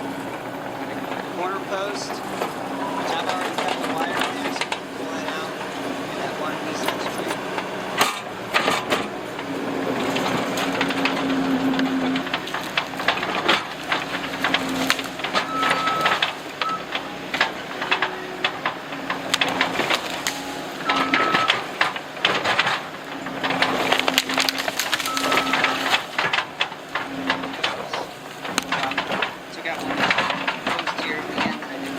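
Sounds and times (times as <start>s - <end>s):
skid steer engine humming: 0.0s - 31.9s
soil and brush cracking: 0.0s - 31.9s.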